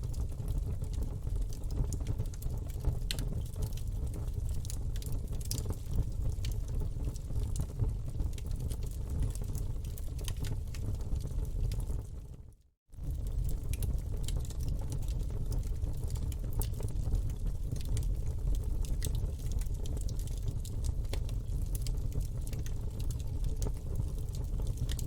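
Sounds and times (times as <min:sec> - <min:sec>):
campfire flames rumbling: 0:00.0 - 0:25.0
fire crackling and popping: 0:00.0 - 0:25.0.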